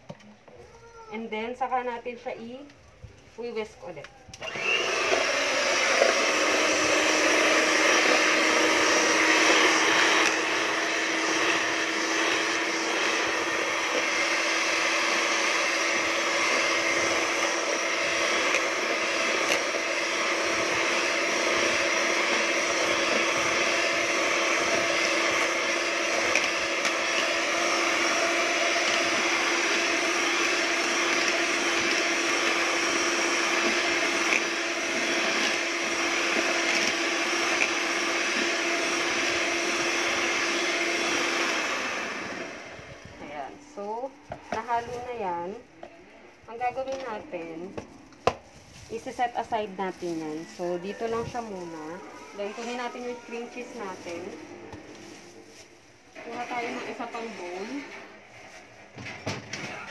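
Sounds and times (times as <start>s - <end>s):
electric mixer whirring: 4.3s - 45.5s, 46.5s - 58.2s.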